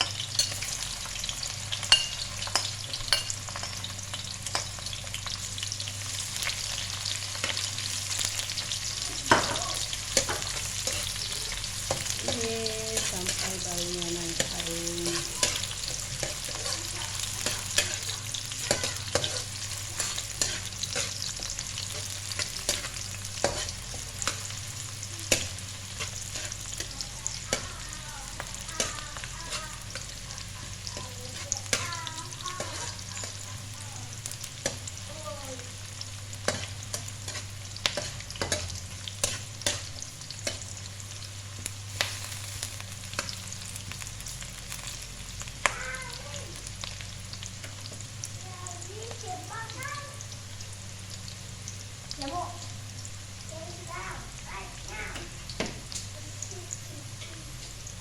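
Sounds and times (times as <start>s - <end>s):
food sizzling in hot oil: 0.0s - 58.0s.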